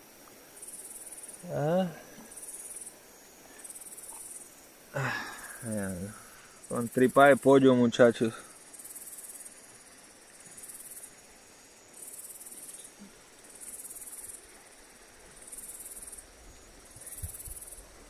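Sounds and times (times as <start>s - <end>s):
insect calling in shrill pulses: 0.6s - 7.7s, 8.4s - 17.8s.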